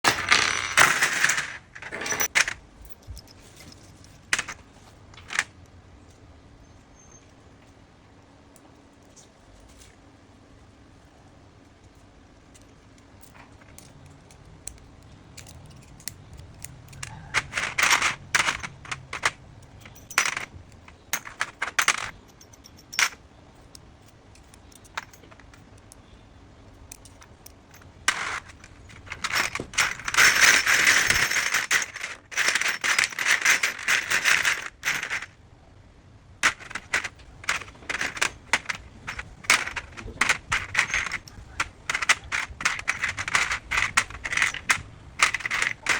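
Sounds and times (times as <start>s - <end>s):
parts rattling: 0.0s - 6.2s, 12.5s - 35.4s, 36.4s - 45.9s.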